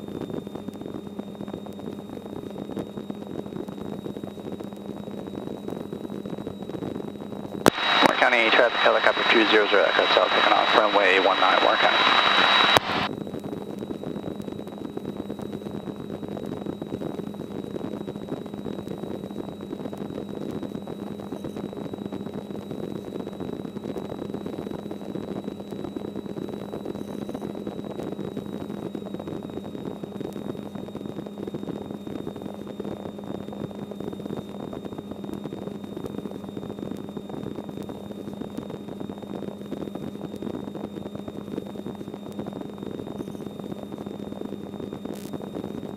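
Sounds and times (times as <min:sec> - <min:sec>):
helicopter engine and rotor drone: 0:00.0 - 0:45.9
thin high whine: 0:00.0 - 0:45.9.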